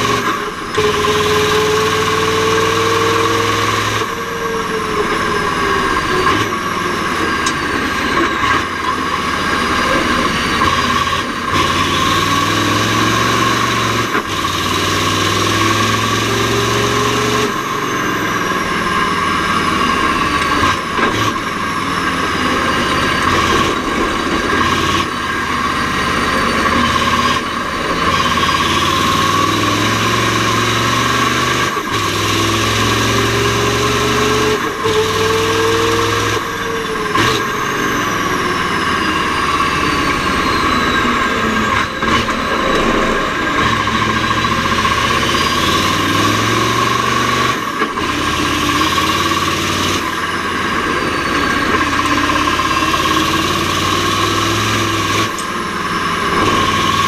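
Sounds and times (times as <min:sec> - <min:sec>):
diesel truck engine under load: 0:00.0 - 0:57.0
high gearbox whine: 0:00.0 - 0:57.0.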